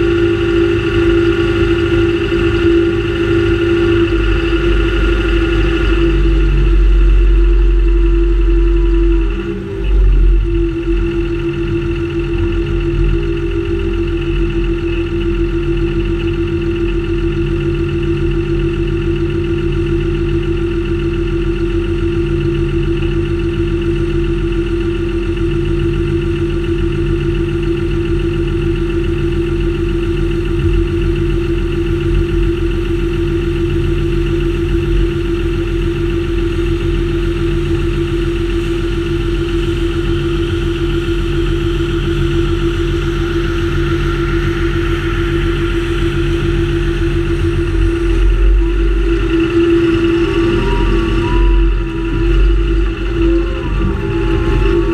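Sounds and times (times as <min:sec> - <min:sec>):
combine harvester mechanical noise: 0:00.0 - 0:54.9
tractor diesel engine running: 0:00.0 - 0:54.9.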